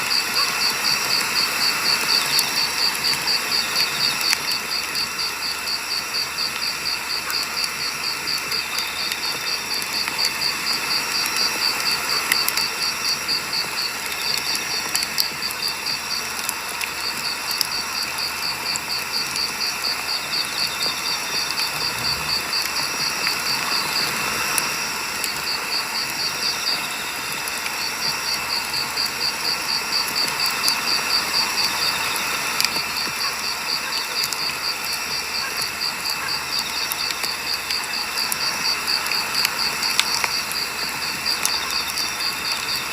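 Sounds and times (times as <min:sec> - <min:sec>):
campfire crackling: 0:00.0 - 0:42.9
cricket chirping: 0:00.0 - 0:42.9.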